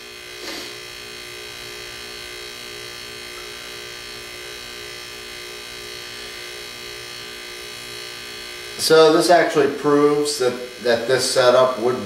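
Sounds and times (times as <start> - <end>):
vacuum pump buzzing hum: 0.0 - 12.0.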